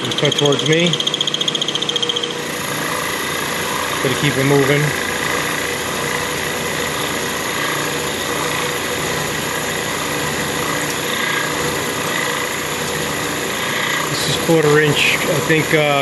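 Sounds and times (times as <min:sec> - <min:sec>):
milling machine cutting steel: 0:00.0 - 0:16.0.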